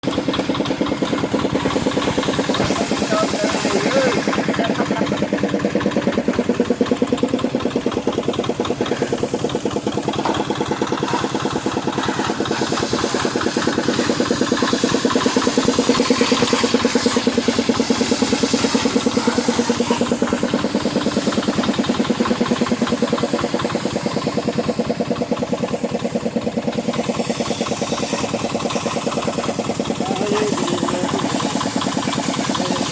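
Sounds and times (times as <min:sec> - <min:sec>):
small motor pulsing: 0:01.3 - 0:25.4, 0:26.2 - 0:32.9.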